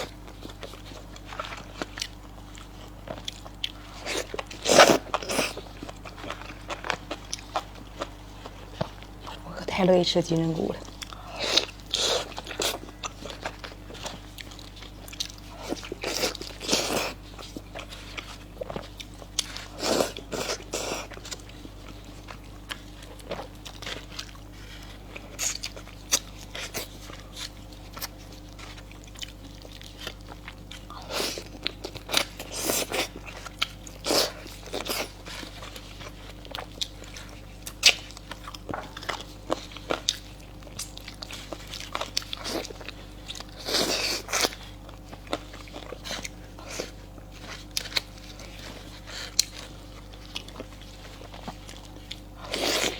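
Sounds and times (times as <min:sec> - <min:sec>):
person chewing food: 0:00.0 - 0:09.5, 0:10.3 - 0:52.9.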